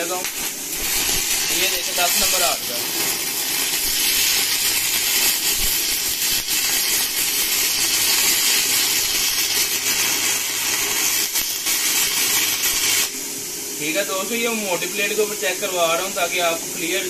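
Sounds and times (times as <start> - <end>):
welding arc hissing: 0.0 - 17.0.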